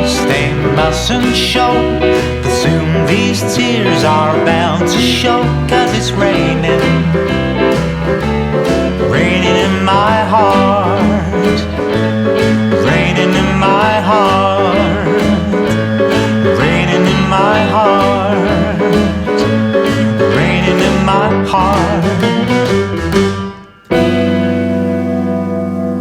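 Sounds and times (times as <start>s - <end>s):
rock band playing slow ballad: 0.0s - 26.0s.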